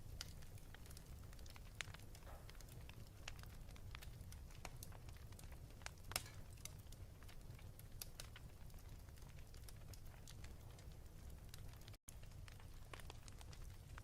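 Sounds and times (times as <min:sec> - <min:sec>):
fire pops: 0:00.0 - 0:14.0
wood fire crackling: 0:00.0 - 0:14.0.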